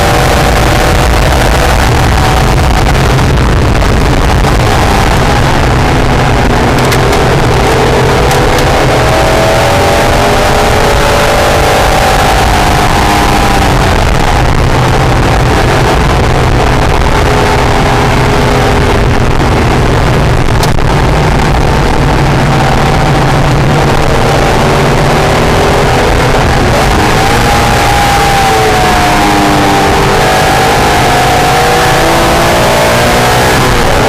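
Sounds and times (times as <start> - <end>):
car engine running hard: 0.0 - 34.0
wind and road noise: 0.0 - 34.0.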